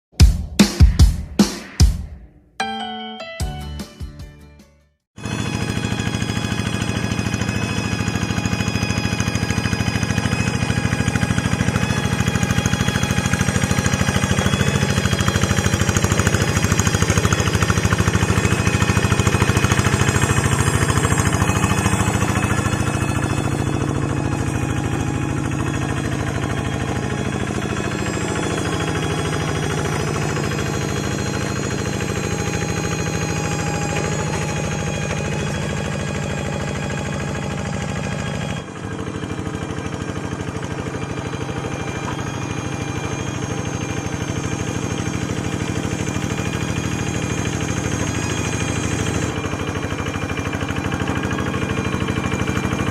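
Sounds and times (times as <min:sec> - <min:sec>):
hand tractor engine pulsing: 0:05.2 - 0:52.9.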